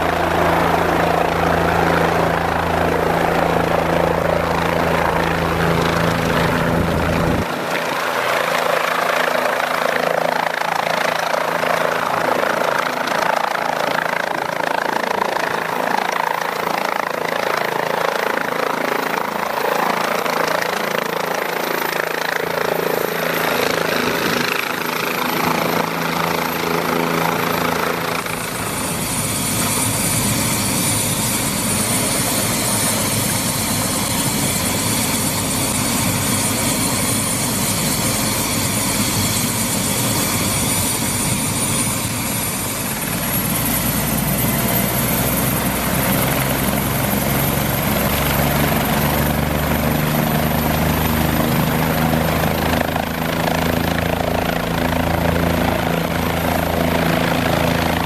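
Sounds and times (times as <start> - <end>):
helicopter engine whine: 0.0 - 58.0.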